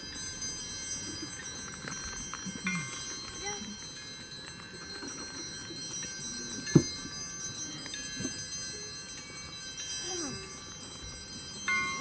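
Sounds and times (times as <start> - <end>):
thin high ringing tones: 0.0 - 12.0.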